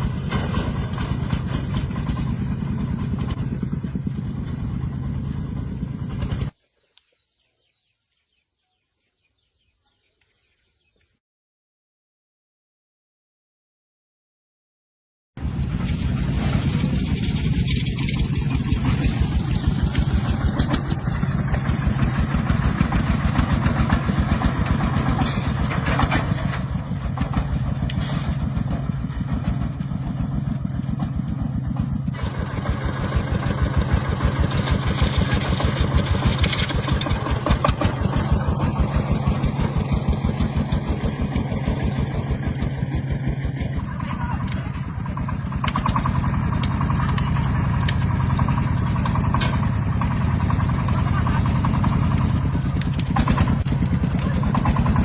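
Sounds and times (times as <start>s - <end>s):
engine running steadily: 0.0s - 6.6s, 15.4s - 55.0s.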